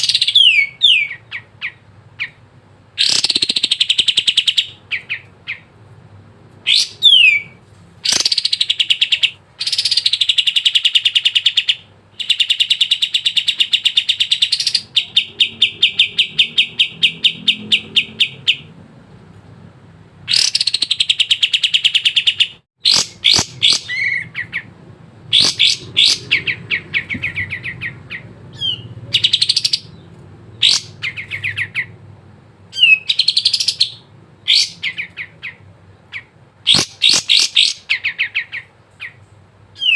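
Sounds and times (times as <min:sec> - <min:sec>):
songbird chattering: 0:03.0 - 0:05.7, 0:06.6 - 0:18.8, 0:20.3 - 0:24.7, 0:25.3 - 0:32.0, 0:32.7 - 0:39.2.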